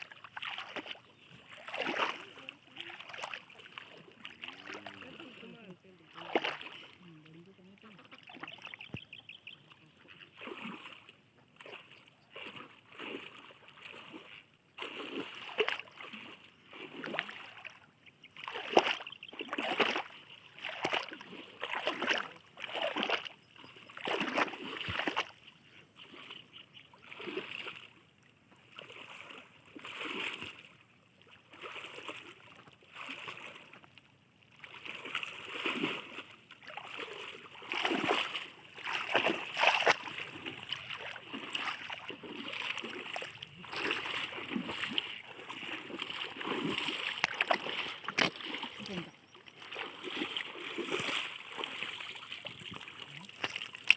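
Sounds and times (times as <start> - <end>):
river water splashing: 0.0 - 53.9.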